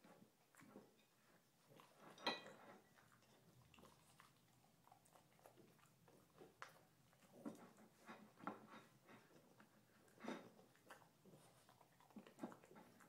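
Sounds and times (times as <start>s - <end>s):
dog chewing food: 0.0s - 13.0s.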